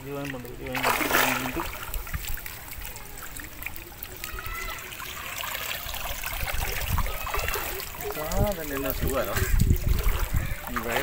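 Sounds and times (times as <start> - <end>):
water dripping from net: 0.0 - 11.0
water stirring around legs: 0.0 - 11.0.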